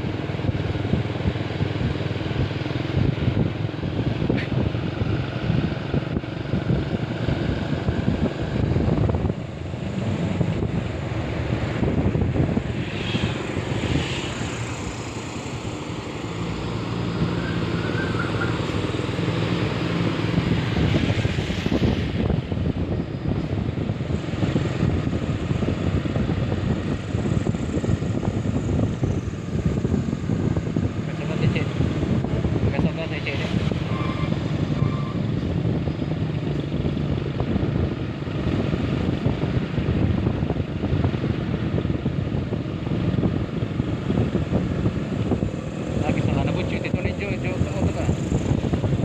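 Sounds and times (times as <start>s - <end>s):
road noise: 0.0s - 49.0s
truck engine rumbling: 0.0s - 49.0s.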